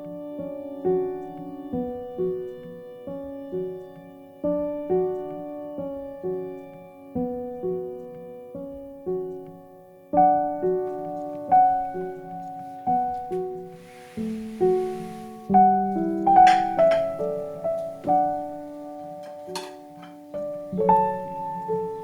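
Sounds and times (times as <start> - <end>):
soft piano notes: 0.0 - 22.0.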